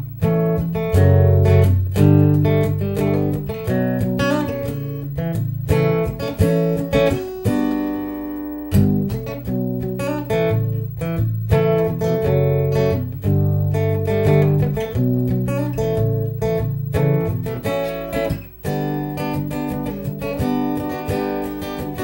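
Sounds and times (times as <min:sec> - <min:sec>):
acoustic guitar picking and strumming: 0:00.0 - 0:22.0.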